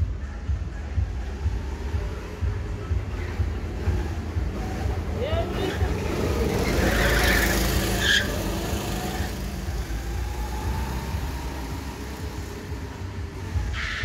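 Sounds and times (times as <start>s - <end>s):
distant engine whine: 0.0s - 14.0s
go-kart engine passing: 0.9s - 14.0s.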